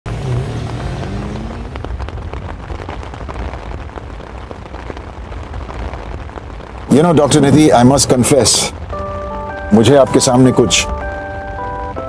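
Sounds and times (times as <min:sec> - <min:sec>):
heavy rain falling: 0:00.1 - 0:12.0.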